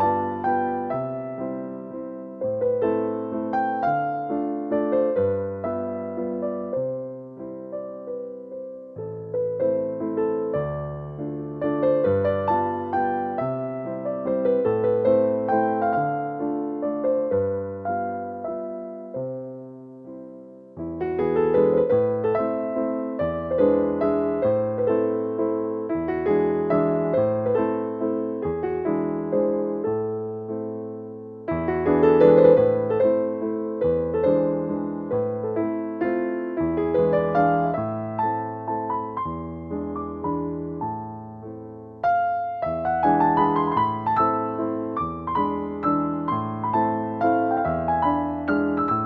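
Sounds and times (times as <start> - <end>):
slow piano music: 0.0 - 49.0.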